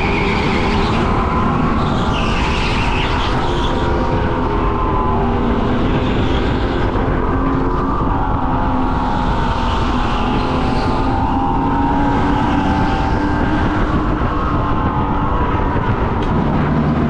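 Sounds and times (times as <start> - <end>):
go-kart motor whine: 0.0 - 17.0
road and wind rumble: 0.0 - 17.0.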